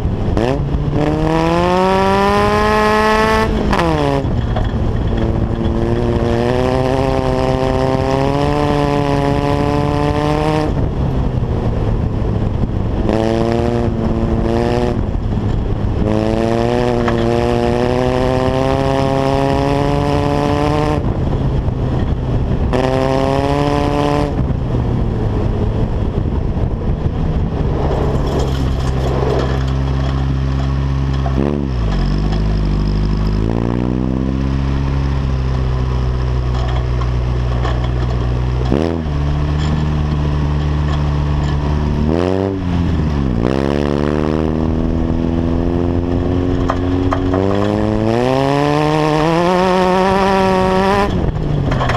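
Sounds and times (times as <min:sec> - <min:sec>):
buggy engine revving: 0:00.0 - 0:51.9
steady rush of noise: 0:00.0 - 0:51.9.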